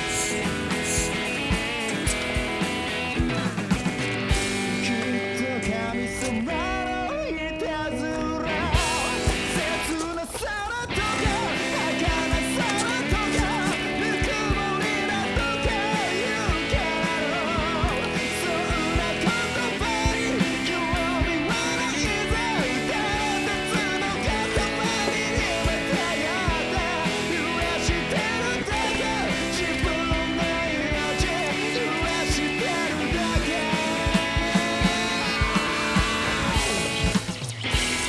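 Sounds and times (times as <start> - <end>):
steady drum beat: 0.0 - 5.4, 8.7 - 10.1, 10.9 - 38.0
man singing: 0.0 - 37.3
electric guitars: 0.0 - 38.0.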